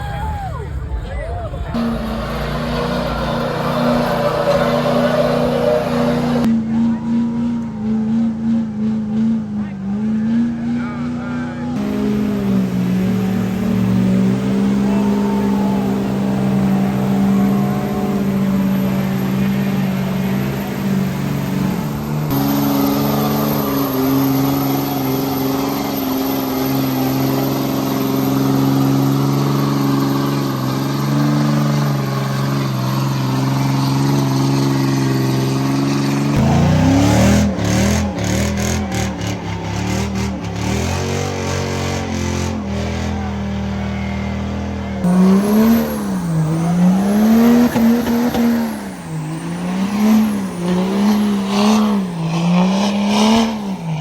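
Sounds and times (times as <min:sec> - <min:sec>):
tire noise: 0:00.0 - 0:54.0
truck engine revving: 0:00.0 - 0:54.0.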